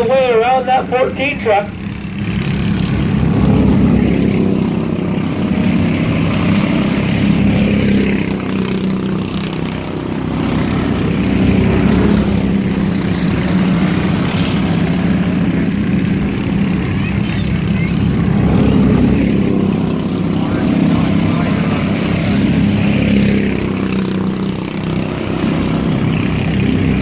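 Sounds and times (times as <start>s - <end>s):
race truck engines droning: 0.0s - 27.0s.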